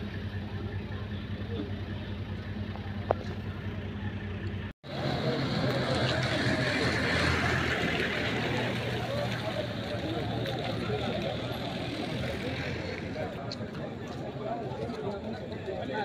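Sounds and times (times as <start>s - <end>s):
noisy outdoor mix: 0.0s - 16.0s
vehicle engine hum: 0.0s - 16.0s.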